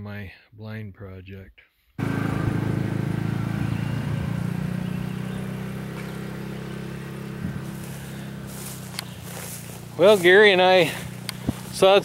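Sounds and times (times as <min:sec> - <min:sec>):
tractor engine running: 0:02.0 - 0:12.0.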